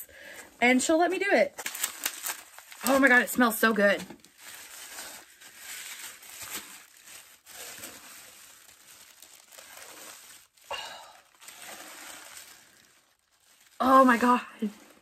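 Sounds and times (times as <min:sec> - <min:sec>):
packaging crinkling: 0:01.5 - 0:15.0.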